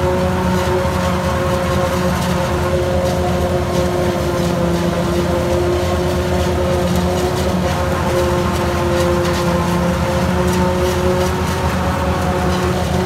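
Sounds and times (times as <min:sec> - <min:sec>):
forage harvester chopping maize: 0:00.0 - 0:13.0
tractor engine: 0:00.0 - 0:13.0.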